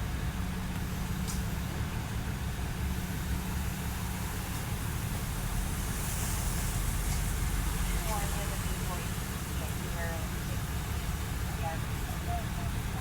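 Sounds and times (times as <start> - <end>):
street noise hiss: 0.0 - 13.0
vehicle engine idling: 0.0 - 13.0.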